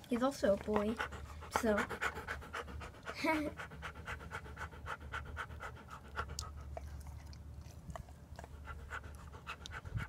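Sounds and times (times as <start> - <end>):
dog panting rapidly: 0.0 - 10.0.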